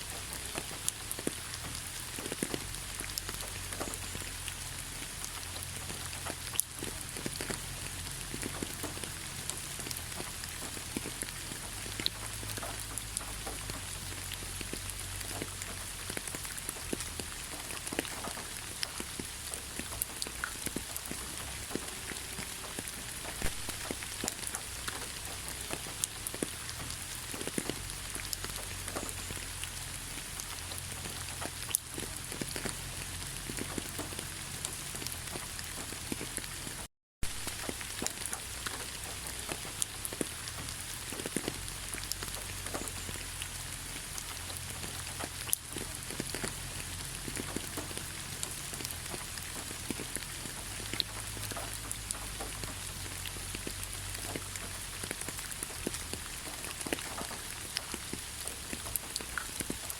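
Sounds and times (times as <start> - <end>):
sharp raindrop ticks: 0.0 - 59.9
steady rain falling: 0.0 - 59.9.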